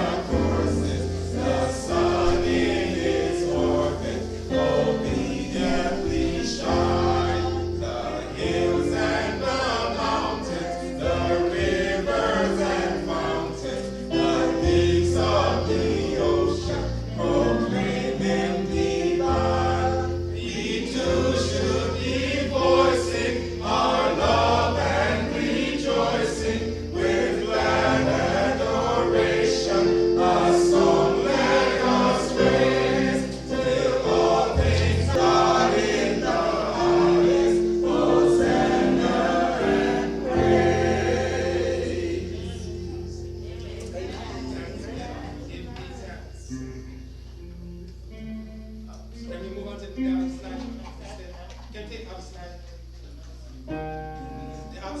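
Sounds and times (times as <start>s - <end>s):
sustained low bass notes: 0.0s - 50.8s
choir singing a gospel hymn: 0.0s - 51.4s, 53.7s - 55.0s.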